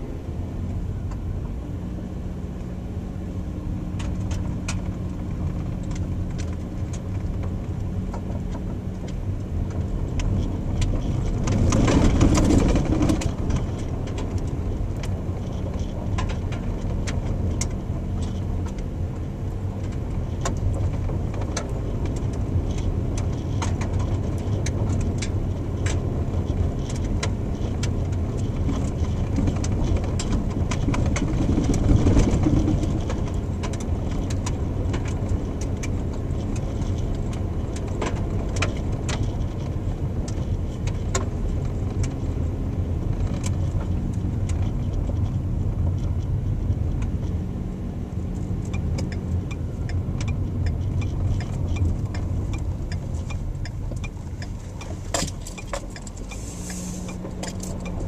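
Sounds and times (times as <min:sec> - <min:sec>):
car engine and tyre rumble: 0:00.0 - 0:58.0
rush of rumbling noise: 0:00.0 - 0:58.0
sharp clicks and ticks: 0:04.0 - 0:58.0.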